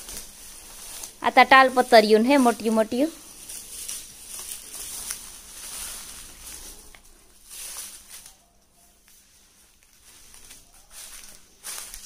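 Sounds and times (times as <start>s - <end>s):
rustling and scuffing on straw: 0.0s - 12.0s.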